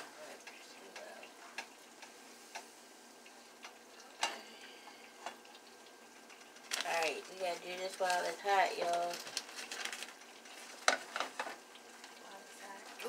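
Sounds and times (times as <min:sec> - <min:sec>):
dough sizzling in hot oil: 0:00.0 - 0:13.0.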